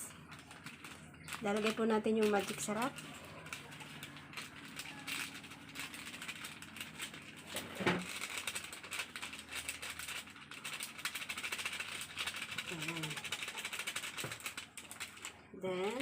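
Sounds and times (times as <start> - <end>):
seasoning granules rattling: 0.0 - 16.0.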